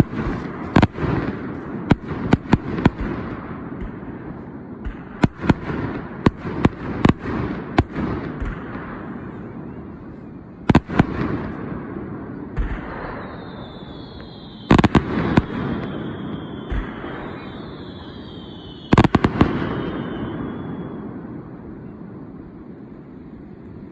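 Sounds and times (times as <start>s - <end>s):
fireworks bangs: 0.0s - 23.9s
rolling echo: 0.0s - 23.9s.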